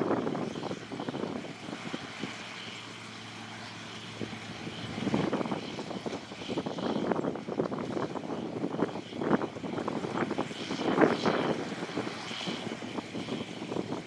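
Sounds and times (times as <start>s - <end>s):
harvester engine drone: 0.0s - 14.0s.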